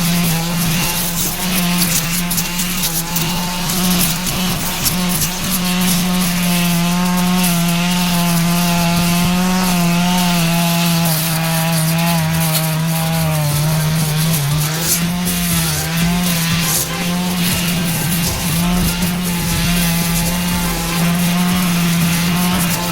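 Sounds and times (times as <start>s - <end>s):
brush cutter engine at high revs: 0.0s - 22.9s.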